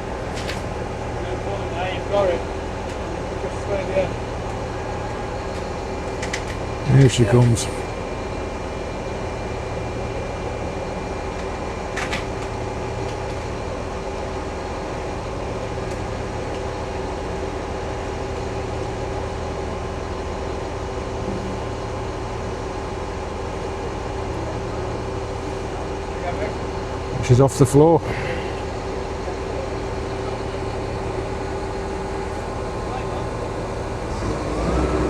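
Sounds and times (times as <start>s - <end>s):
crane engine humming: 0.0s - 35.0s
thin steady whine: 0.0s - 35.0s.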